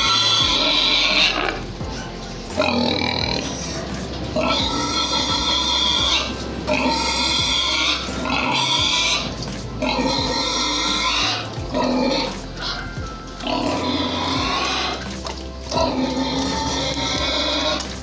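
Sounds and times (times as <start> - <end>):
pigs squealing: 0.0 - 18.0.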